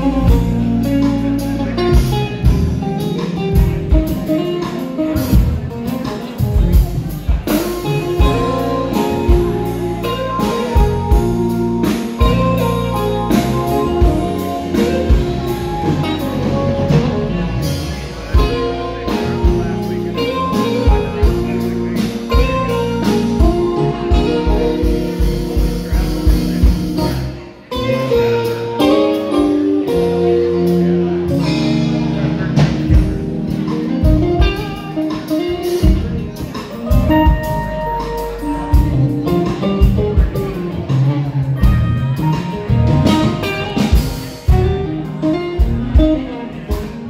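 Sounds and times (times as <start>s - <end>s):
band playing guitar and drums: 0.0s - 47.0s.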